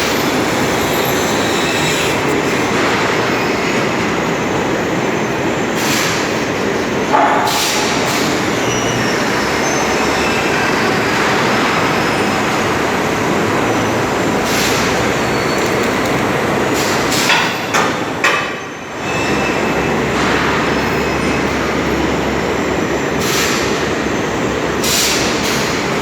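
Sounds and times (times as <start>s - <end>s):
forklift running under load: 0.0s - 26.0s.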